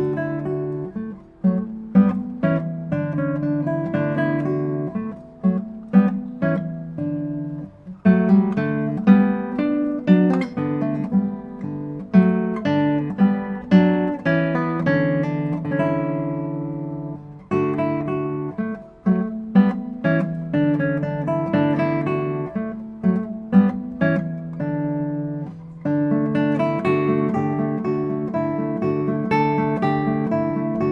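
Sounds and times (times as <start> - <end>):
solo acoustic guitar: 0.0 - 30.9.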